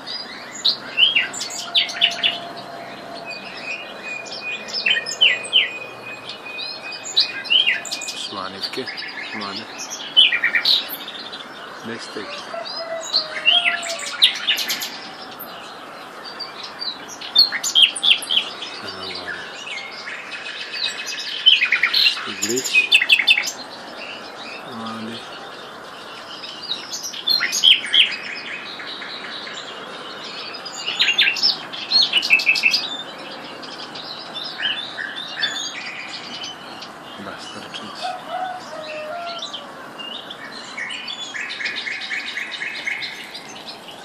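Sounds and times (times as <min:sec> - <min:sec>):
songbird chirping and trilling: 0:00.0 - 0:44.0.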